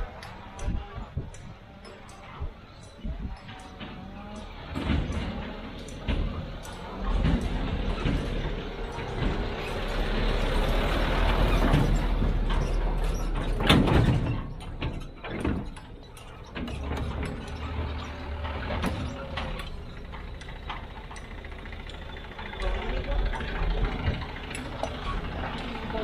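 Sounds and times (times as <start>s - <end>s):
low engine rumble: 0.0s - 26.0s
metallic clanks and rattles: 0.0s - 26.0s.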